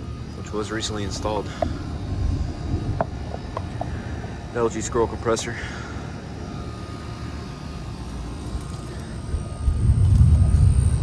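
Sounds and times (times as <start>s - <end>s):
air conditioner fan hum: 0.0s - 11.0s
compressor low rumble: 0.0s - 11.0s.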